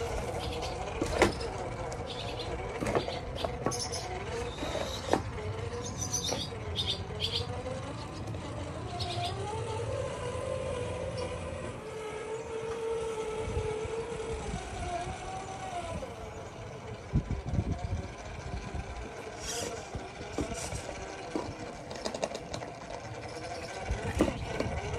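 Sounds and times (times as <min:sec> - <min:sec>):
electric motor and gear whine: 0:00.0 - 0:24.9.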